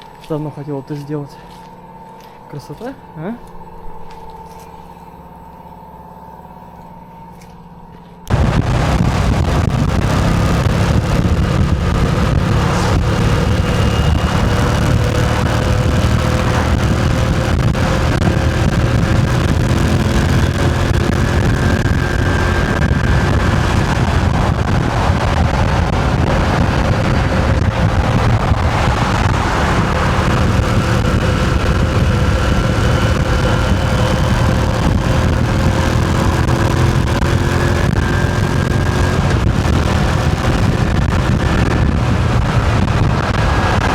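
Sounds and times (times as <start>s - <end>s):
motorcycle engine running: 8.3s - 43.9s
wind noise on microphone: 8.3s - 43.9s.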